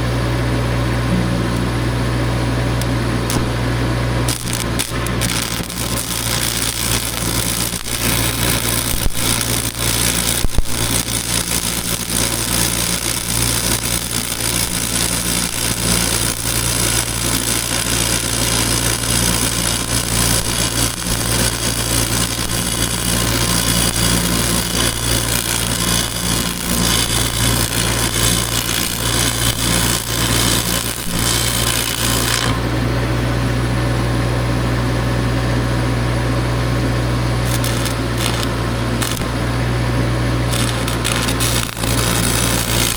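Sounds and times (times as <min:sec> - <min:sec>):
steady low hum: 0:00.0 - 0:42.9
welding arc crackling: 0:02.7 - 0:32.7, 0:37.4 - 0:42.9.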